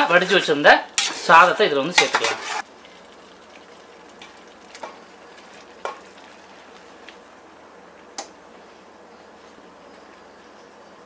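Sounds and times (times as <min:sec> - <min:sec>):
faint sizzle in pot: 0:00.0 - 0:11.0.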